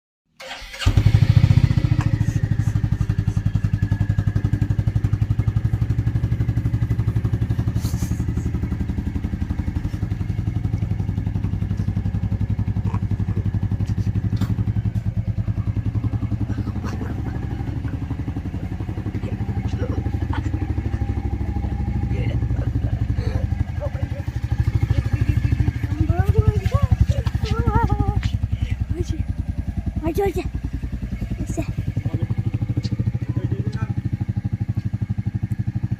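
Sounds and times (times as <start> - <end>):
motorcycle engine idling: 0.4 - 35.9.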